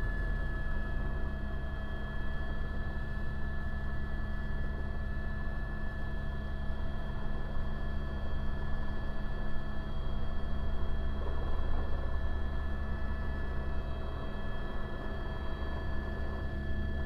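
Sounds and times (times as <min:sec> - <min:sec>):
constant high whine: 0:00.0 - 0:17.0
helicopter rotor and engine drone: 0:00.0 - 0:17.0.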